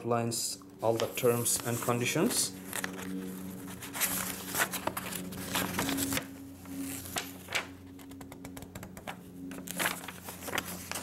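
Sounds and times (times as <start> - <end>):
low steady hum: 0.0 - 11.0
paper rustling and crinkling: 0.8 - 11.0.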